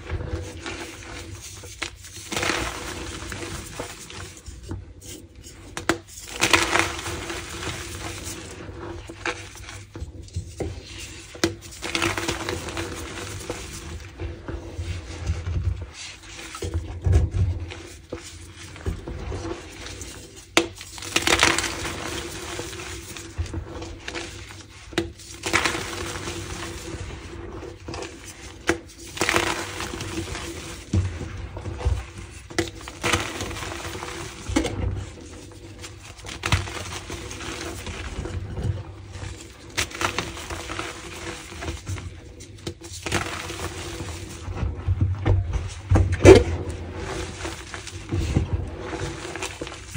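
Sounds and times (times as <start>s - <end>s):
crumbling crackles: 0.0s - 4.8s, 5.4s - 49.9s.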